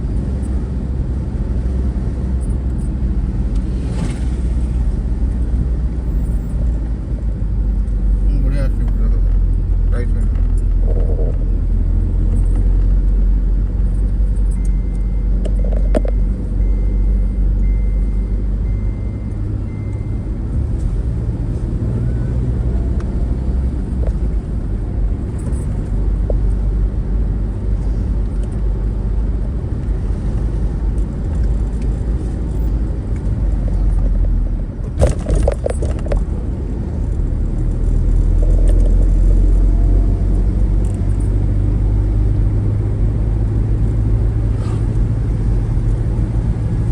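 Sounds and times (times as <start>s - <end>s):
vehicle rumbling: 0.0s - 46.9s.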